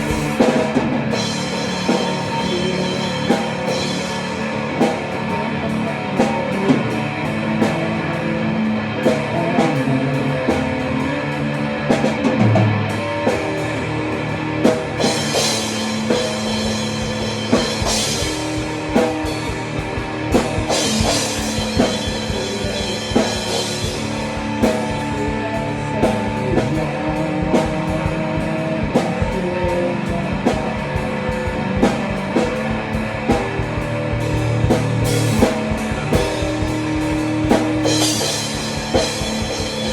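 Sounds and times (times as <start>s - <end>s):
drum kit beat: 0.0s - 39.9s
guitar: 0.0s - 39.9s
rock band playing: 0.0s - 39.9s.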